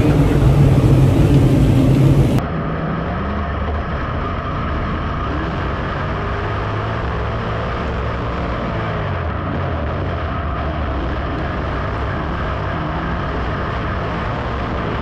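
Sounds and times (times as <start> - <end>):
in-car engine drone: 0.0 - 15.0
race car engines running in a pack: 0.0 - 15.0.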